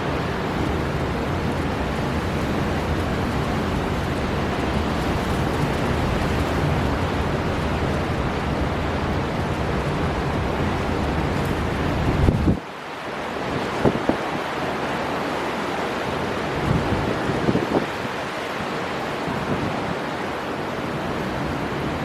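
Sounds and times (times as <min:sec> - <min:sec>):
heavy sea surf: 0:00.0 - 0:22.0
storm wind: 0:00.0 - 0:22.0.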